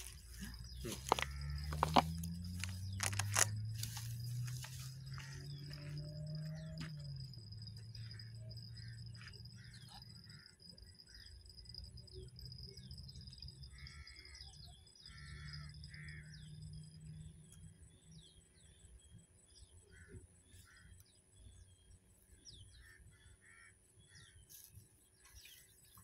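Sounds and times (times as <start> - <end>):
small birds chirping: 0.0 - 16.2, 17.4 - 26.0.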